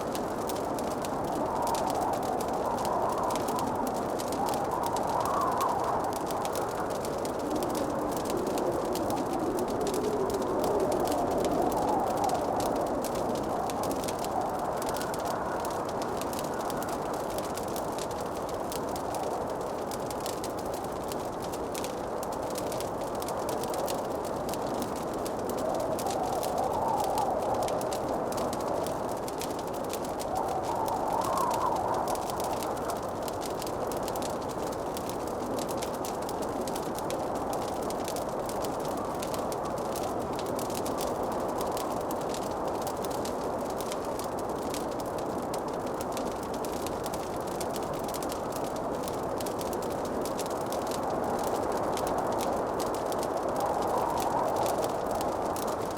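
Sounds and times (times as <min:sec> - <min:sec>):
steady rushing hiss: 0:00.0 - 0:55.9
wood fire crackling: 0:00.0 - 0:55.9.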